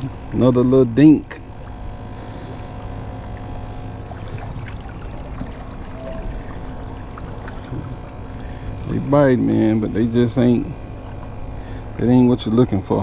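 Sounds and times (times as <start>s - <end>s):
low engine drone: 0.0s - 13.0s
water noise: 0.0s - 13.0s.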